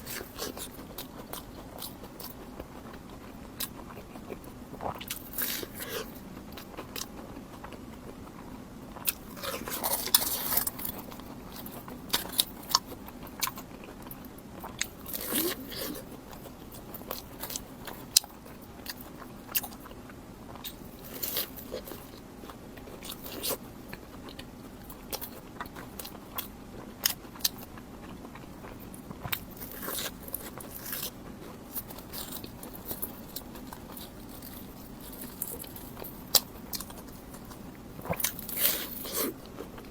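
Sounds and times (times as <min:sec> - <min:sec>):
crunchy bread chewing: 0:00.0 - 0:39.9.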